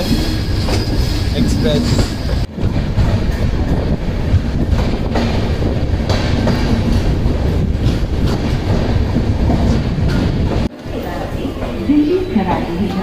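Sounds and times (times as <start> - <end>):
train wheel and rail rumble: 0.0 - 13.0.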